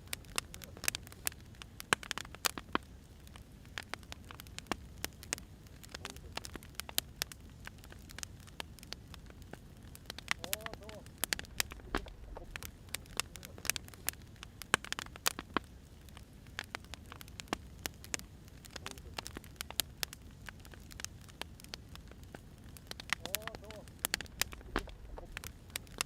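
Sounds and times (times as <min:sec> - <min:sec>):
firewood crackling and popping: 0:00.0 - 0:26.0
low rumble of fire: 0:00.0 - 0:26.0.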